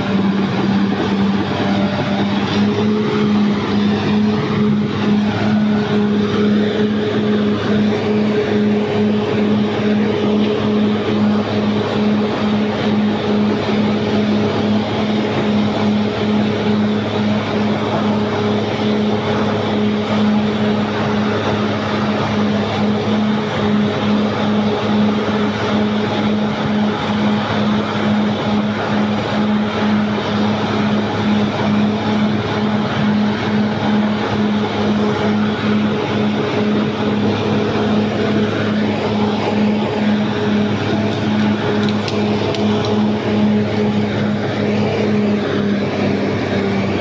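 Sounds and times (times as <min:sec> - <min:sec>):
bulldozer diesel engine droning: 0:00.0 - 0:47.0.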